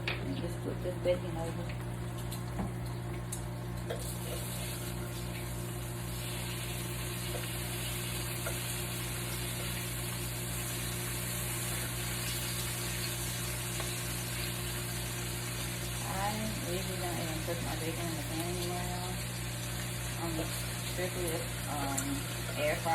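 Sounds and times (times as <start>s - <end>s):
bacon sizzling in a frying pan: 0.0s - 22.9s.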